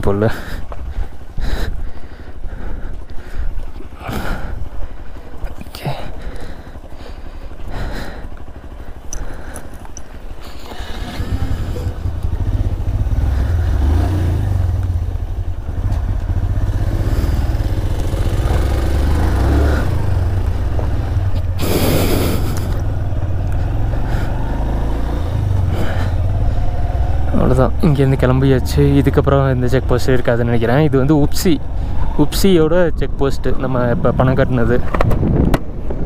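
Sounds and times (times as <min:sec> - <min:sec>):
motorcycle engine rumbling: 0:00.0 - 0:36.0.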